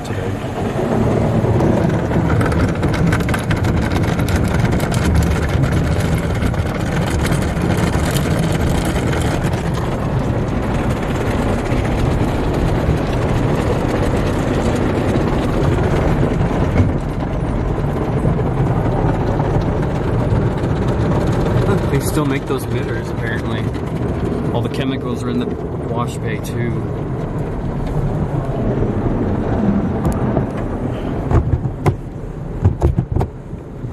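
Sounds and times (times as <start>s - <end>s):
car wash brushes scrubbing car: 0.0s - 33.9s.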